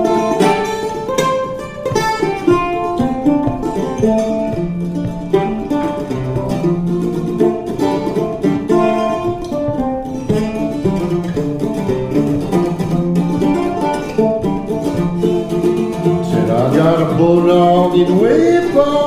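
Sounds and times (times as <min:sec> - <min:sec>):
mandola picking notes and chords: 0:00.0 - 0:19.0.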